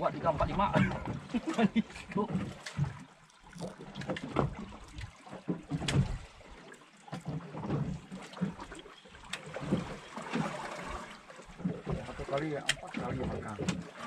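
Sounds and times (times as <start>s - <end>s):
water lapping against boat hull: 0.0s - 14.0s.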